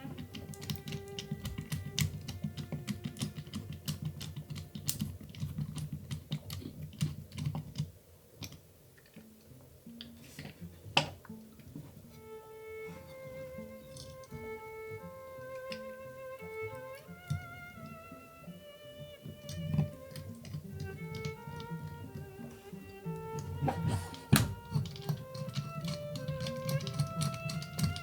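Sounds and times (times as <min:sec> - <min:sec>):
bowed-string background music: 0:00.0 - 0:06.8, 0:09.1 - 0:28.0
small plastic parts clicking: 0:00.0 - 0:12.3, 0:12.9 - 0:28.0.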